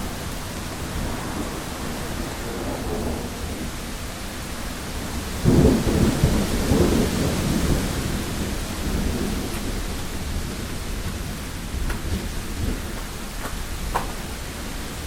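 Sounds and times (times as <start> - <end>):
steady rain: 0.0 - 15.0
thunder clap rumbling: 0.0 - 15.0
wind: 0.0 - 15.0.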